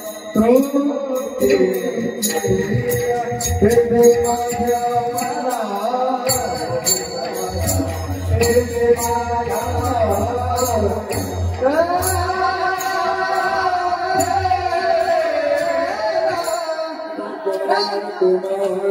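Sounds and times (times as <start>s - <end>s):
man singing in high voice: 0.0s - 18.9s.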